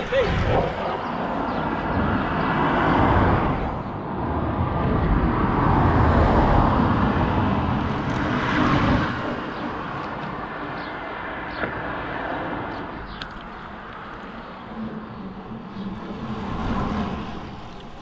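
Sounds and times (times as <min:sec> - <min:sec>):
road traffic rushing past: 0:00.0 - 0:18.0.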